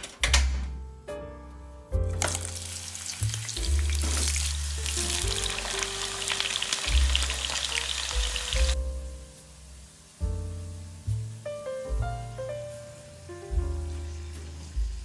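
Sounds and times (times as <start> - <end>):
background music with slow bass: 0.0 - 15.0
potatoes sizzling in hot oil: 2.2 - 15.0.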